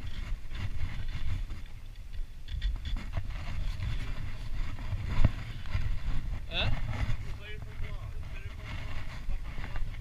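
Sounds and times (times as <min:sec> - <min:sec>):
rod and reel scraping: 0:00.0 - 0:10.0
wind rumbling on microphone: 0:00.0 - 0:10.0.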